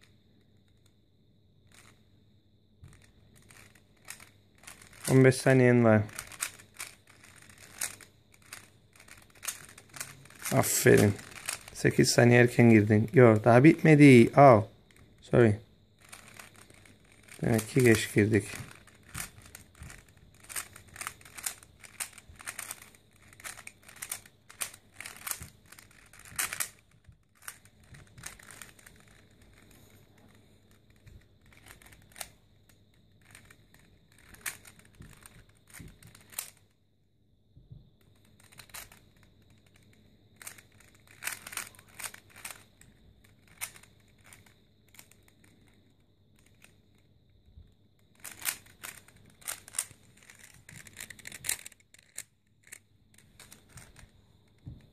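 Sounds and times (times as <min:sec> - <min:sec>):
puzzle cube clicking as twisted: 0:01.7 - 0:02.0, 0:02.9 - 0:15.0, 0:16.0 - 0:32.4, 0:33.2 - 0:36.6, 0:38.2 - 0:47.0, 0:48.1 - 0:54.1.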